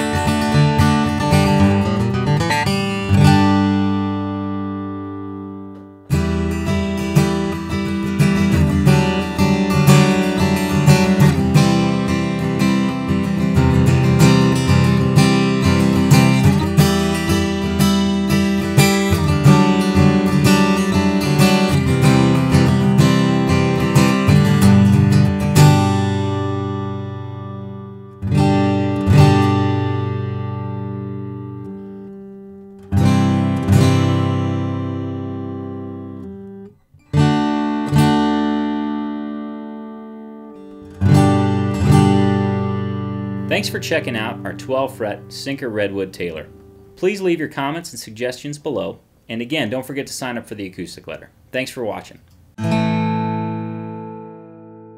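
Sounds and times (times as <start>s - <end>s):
slow guitar chords ringing: 0.0s - 47.4s, 52.6s - 54.9s
acoustic guitar fingerstyle: 0.0s - 47.8s, 52.3s - 54.9s.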